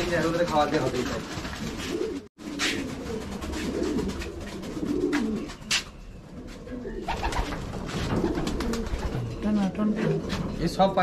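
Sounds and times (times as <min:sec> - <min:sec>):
pigeons cooing: 0:00.9 - 0:10.6.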